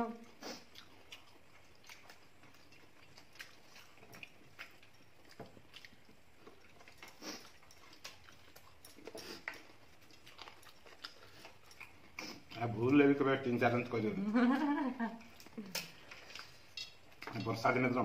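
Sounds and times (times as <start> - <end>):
people chewing and eating: 0.0 - 18.0.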